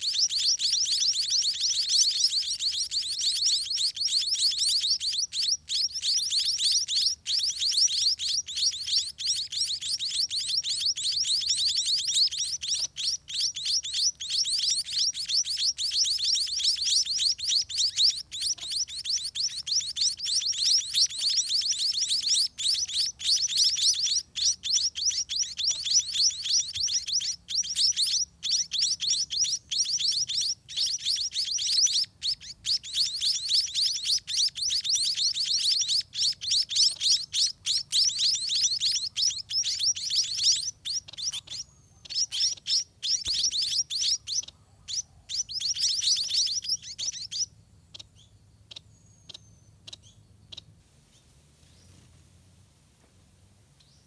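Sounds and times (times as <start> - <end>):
nestlings chirping: 0.0 - 50.8.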